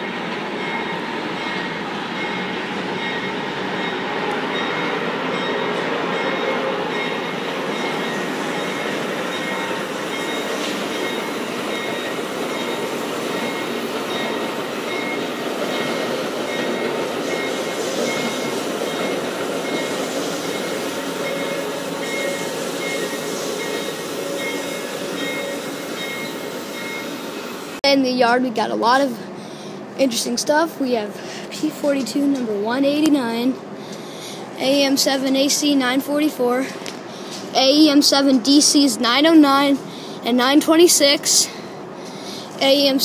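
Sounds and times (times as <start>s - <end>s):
train wheel and rail noise: 0.0s - 43.0s.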